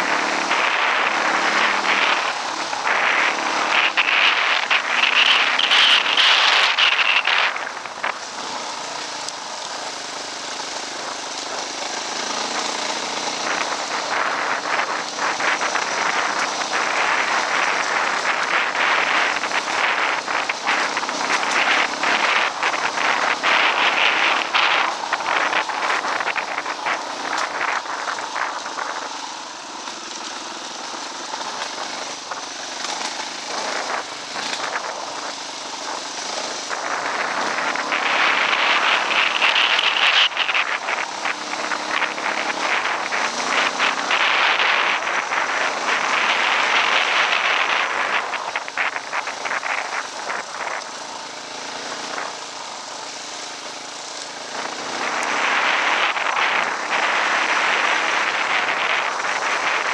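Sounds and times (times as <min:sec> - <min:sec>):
dirt bike engine running: 0:00.0 - 0:59.9
wind rush: 0:00.0 - 0:59.9.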